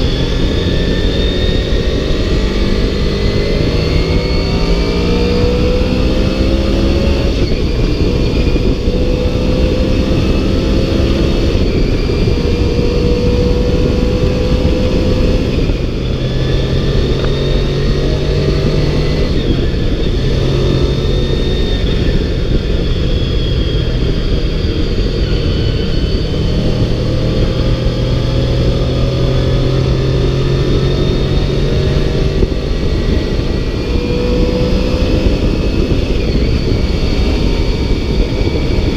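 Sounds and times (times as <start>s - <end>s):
motorcycle engine accelerating: 0.0s - 38.9s
wind noise on microphone: 0.0s - 38.9s.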